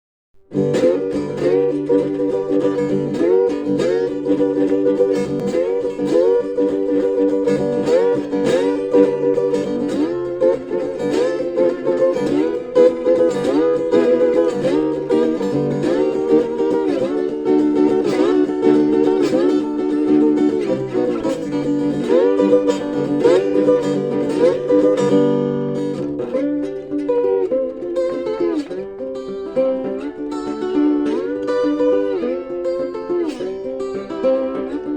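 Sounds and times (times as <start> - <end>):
plucked string instrumental music: 0.4 - 34.9.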